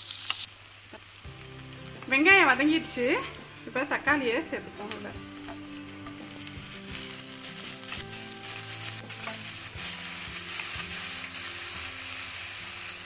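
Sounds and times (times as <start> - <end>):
onions and tomato sizzling: 0.0 - 13.0.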